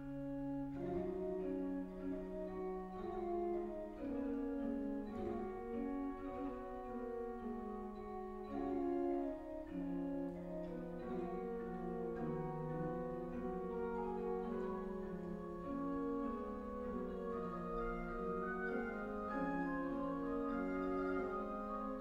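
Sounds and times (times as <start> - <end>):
slow instrumental music: 0.0 - 22.0.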